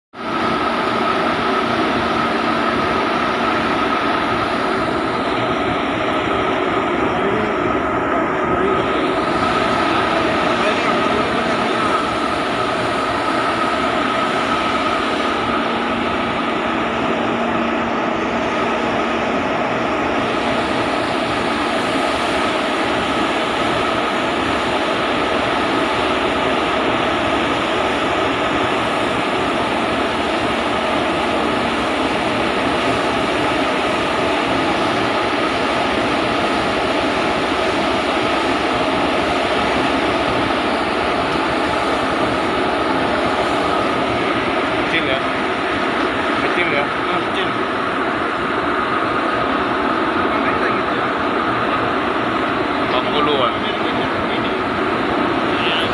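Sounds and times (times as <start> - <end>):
engine drone: 0.1 - 55.9.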